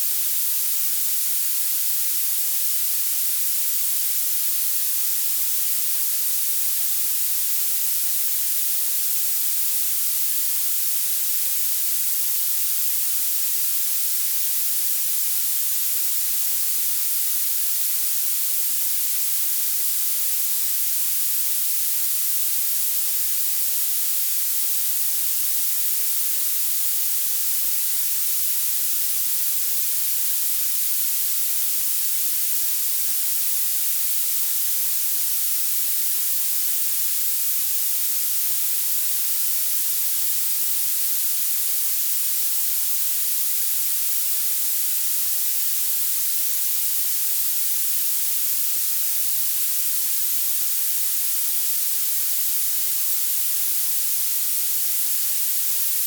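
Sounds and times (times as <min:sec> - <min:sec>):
high-pitched steady hiss: 0:00.0 - 0:56.0.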